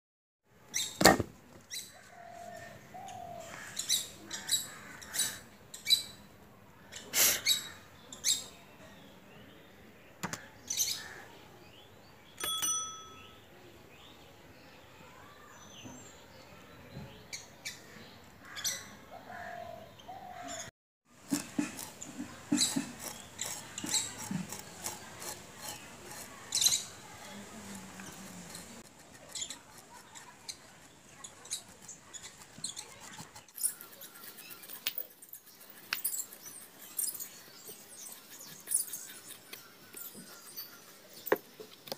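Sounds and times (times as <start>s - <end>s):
birds chirping and calling: 1.7s - 12.5s, 17.0s - 20.7s, 21.8s - 41.6s.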